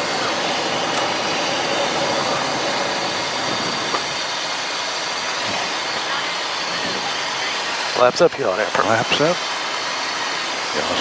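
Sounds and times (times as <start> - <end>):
jet engine and airflow rush: 0.0 - 11.0.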